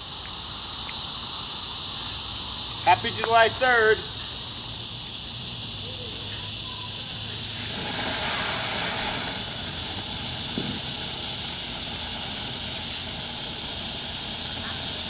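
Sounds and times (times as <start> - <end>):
firework fuse sputtering: 0.0 - 15.0
firework sparks hissing: 0.0 - 15.0.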